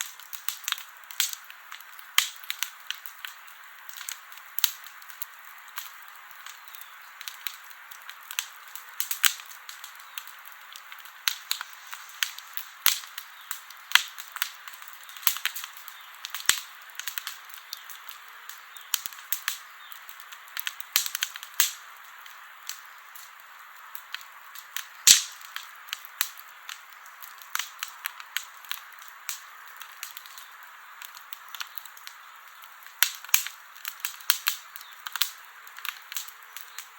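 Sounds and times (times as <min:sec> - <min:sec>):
campfire pops and snaps: 0:00.0 - 0:36.9
soft hiss of burning fire: 0:00.0 - 0:36.9.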